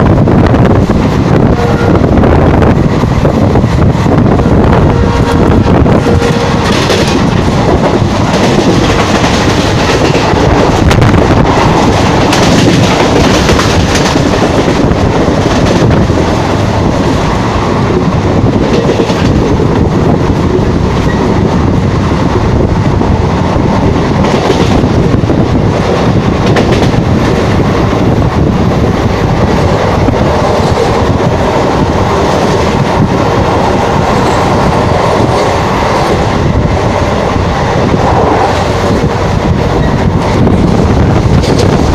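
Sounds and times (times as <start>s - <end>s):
rushing air: 0.0s - 41.9s
train wheels rumbling on rails: 0.0s - 41.9s.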